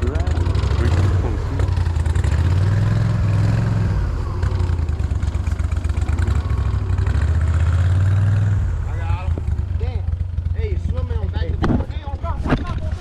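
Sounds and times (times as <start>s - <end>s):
boat motor revving: 0.0s - 11.4s.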